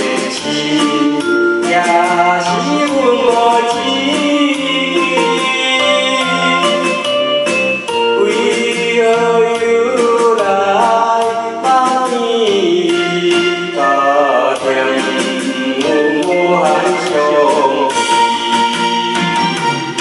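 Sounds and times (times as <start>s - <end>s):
person singing: 0.0s - 19.0s
instrumental backing track: 0.0s - 20.0s.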